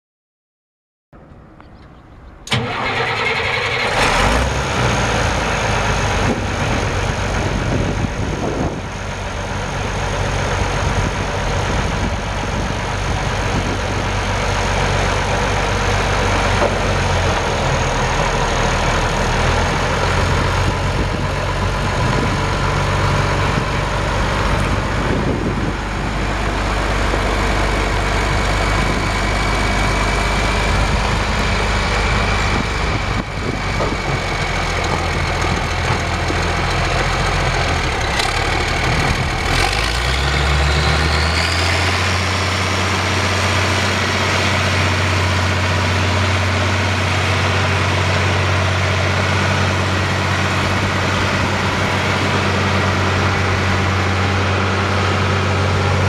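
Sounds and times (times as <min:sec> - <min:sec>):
tractor diesel engine idling: 0:01.2 - 0:56.0
tractor pulling away: 0:01.2 - 0:56.0.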